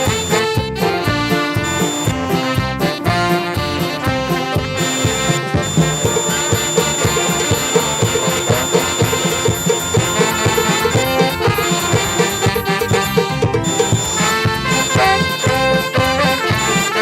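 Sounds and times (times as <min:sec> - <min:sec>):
live band playing dance music: 0:00.0 - 0:17.0.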